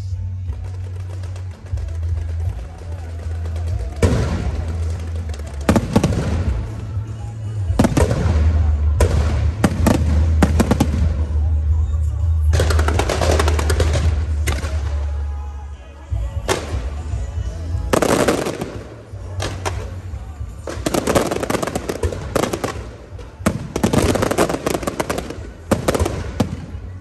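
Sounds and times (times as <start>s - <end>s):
firecrackers crackling: 0.0s - 27.0s
fireworks banging: 0.4s - 15.5s, 16.1s - 27.0s.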